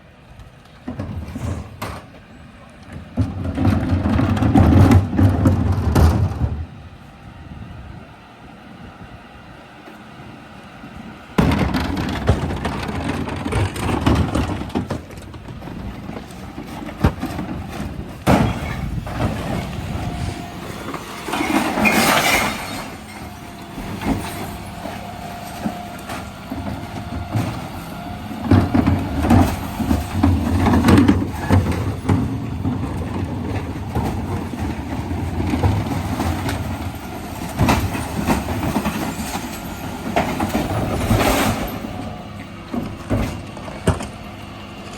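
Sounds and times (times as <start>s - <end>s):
truck engine under hydraulic load: 0.0s - 44.9s.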